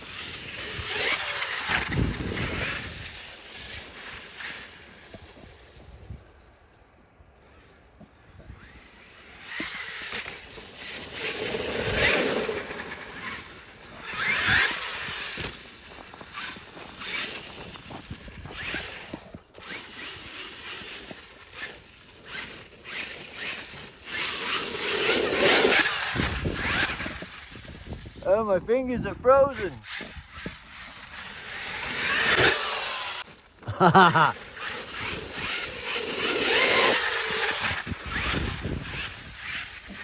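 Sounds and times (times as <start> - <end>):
rc truck electric motor: 0.0 - 40.0.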